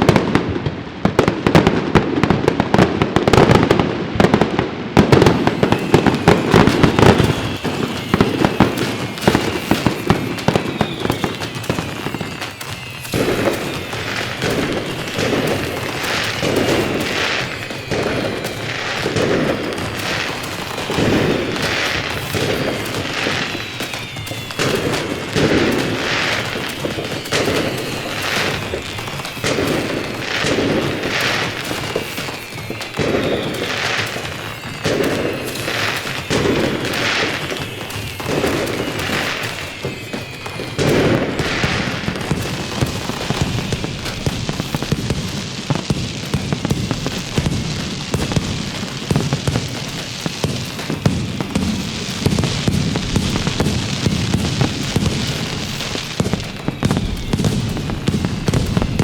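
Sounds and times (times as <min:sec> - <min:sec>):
firecrackers crackling: 0:00.0 - 0:59.0
firework bangs: 0:00.0 - 0:59.0.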